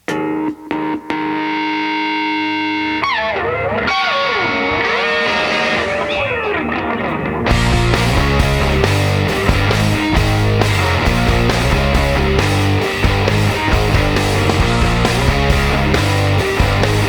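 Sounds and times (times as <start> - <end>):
distorted electric guitar: 0.0 - 17.0
rock band playing: 0.0 - 17.0.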